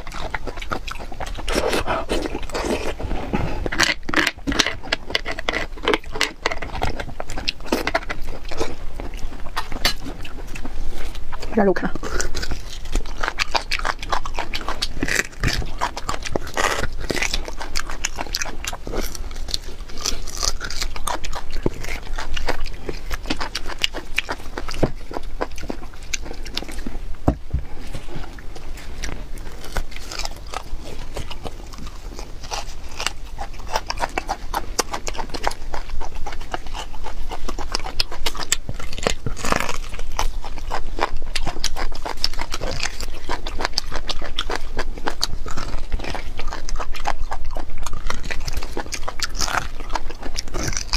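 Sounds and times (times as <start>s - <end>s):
wet chewing and smacking: 0.0s - 50.9s.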